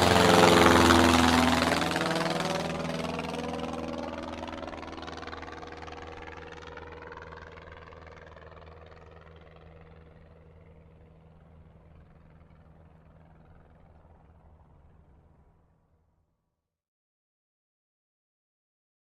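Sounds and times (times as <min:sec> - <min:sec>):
propeller airplane engine drone: 0:00.0 - 0:16.2.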